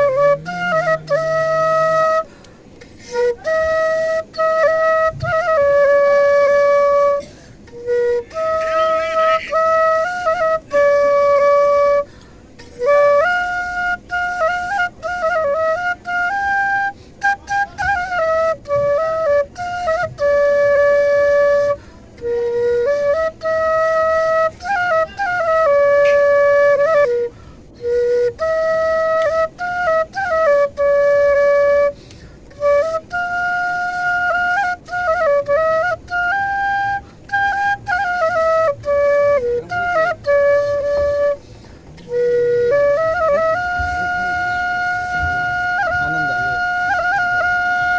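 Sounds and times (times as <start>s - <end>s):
bamboo flute melody: 0.0s - 47.9s.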